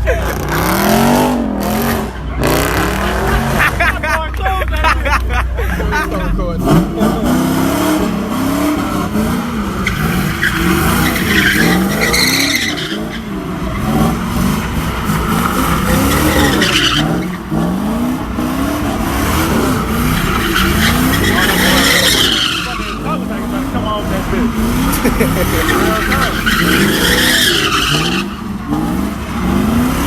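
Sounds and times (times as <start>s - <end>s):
car engine revving: 0.0s - 30.0s
tyres squealing on pavement: 0.0s - 30.0s.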